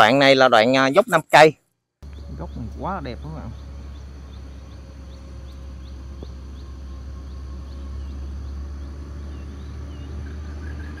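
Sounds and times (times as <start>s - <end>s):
bird chirping: 2.0s - 11.0s
steady low rumble: 2.0s - 11.0s.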